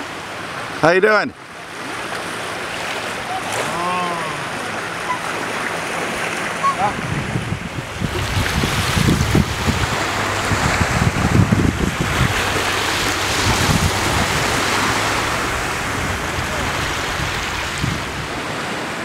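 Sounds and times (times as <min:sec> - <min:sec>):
rushing water: 0:00.0 - 0:19.0
wind buffeting microphone: 0:02.6 - 0:19.0.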